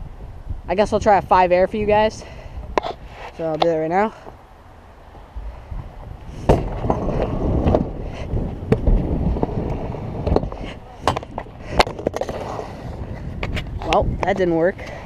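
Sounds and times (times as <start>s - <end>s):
scooter wheels rumbling on concrete: 0.7s - 15.0s.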